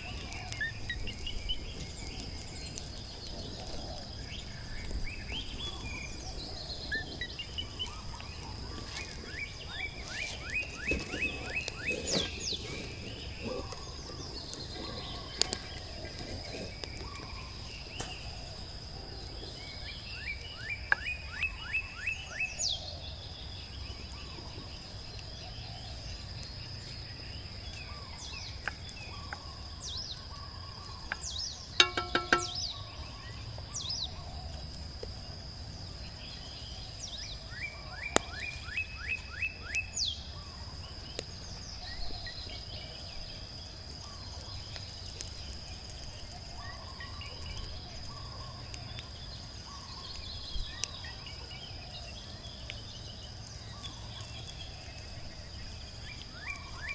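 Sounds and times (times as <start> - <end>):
birds singing: 0.0 - 56.9.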